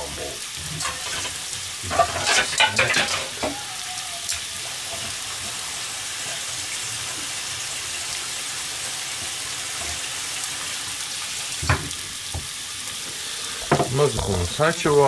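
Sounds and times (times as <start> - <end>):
patties sizzling in frying pan: 0.0 - 15.0.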